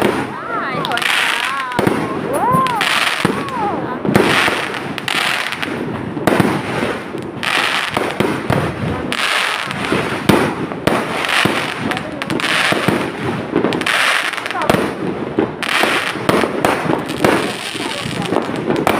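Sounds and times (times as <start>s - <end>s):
fireworks bangs and crackling: 0.0s - 18.9s.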